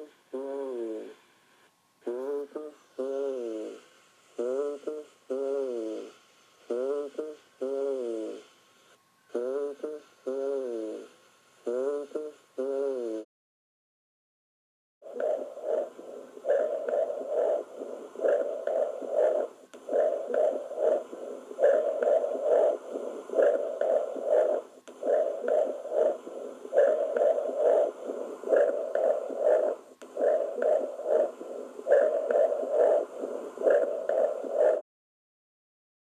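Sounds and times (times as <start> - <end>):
muffled chest sounds through stethoscope: 0.0 - 13.2, 15.0 - 34.8.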